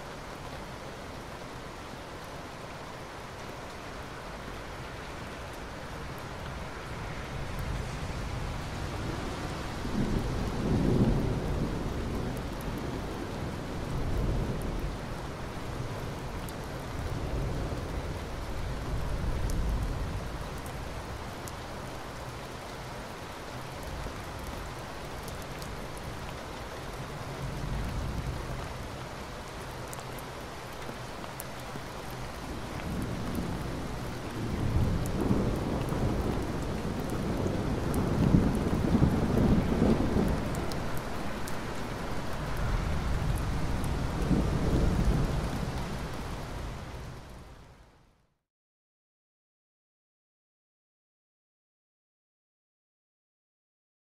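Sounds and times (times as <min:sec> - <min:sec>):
steady rain falling: 0:00.0 - 0:48.4.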